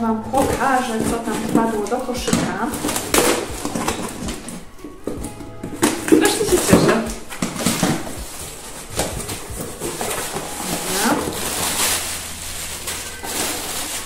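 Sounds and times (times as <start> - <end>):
packaging rustling and crinkling: 0.3 - 14.0.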